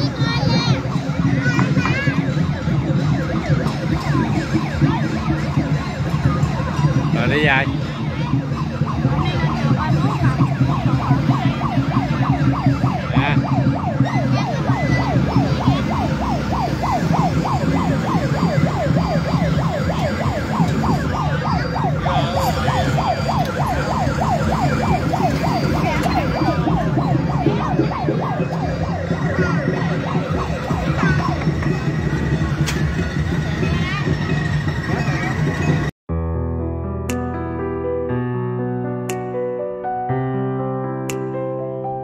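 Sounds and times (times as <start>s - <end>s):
siren-like wailing tone: 0.0s - 35.9s.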